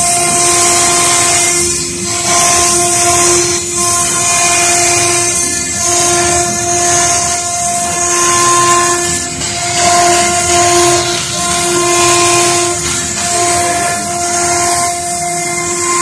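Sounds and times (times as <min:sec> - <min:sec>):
hiss of cutting stone: 0:00.0 - 0:16.0
router spindle whining: 0:00.0 - 0:16.0.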